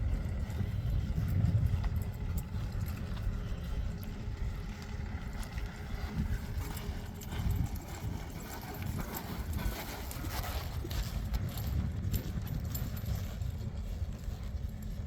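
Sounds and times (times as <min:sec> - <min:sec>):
horse hoofbeats: 0:00.0 - 0:15.0
steady low rumble: 0:00.0 - 0:15.0.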